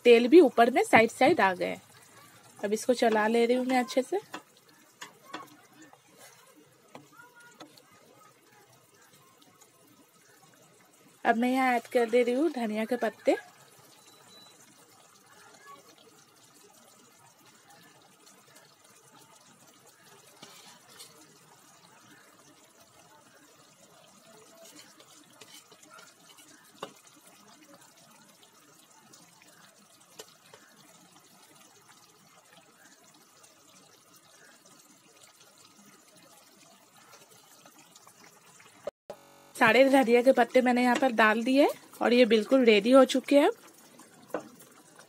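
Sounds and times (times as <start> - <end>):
curry bubbling in a pan: 0.0 - 45.0.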